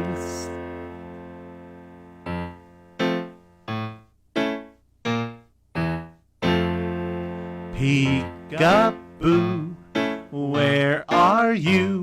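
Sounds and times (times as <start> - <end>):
keyboard playing single notes: 0.0 - 12.0.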